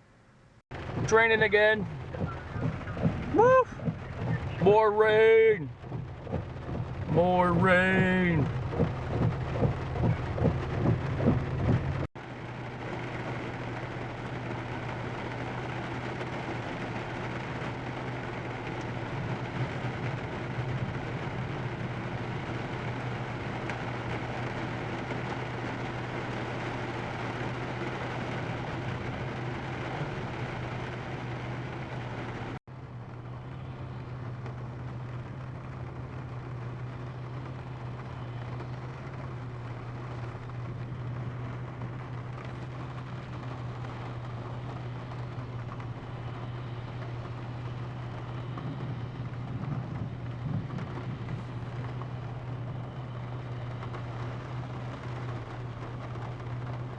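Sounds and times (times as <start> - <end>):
car engine humming: 0.0 - 56.9
rain falling on a car: 0.7 - 56.9.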